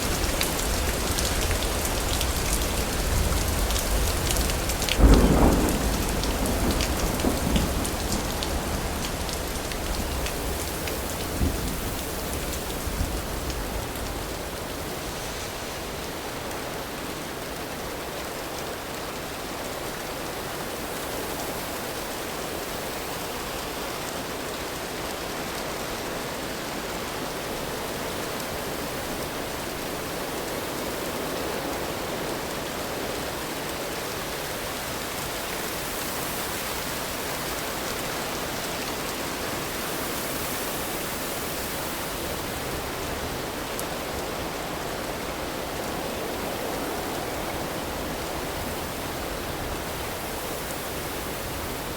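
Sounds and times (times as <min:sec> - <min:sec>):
steady rainfall: 0:00.0 - 0:51.9.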